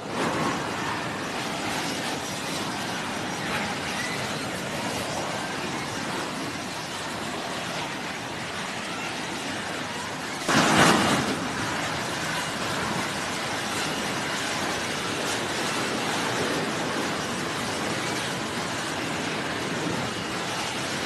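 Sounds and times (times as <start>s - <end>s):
jet engine rushing: 0.0s - 21.0s.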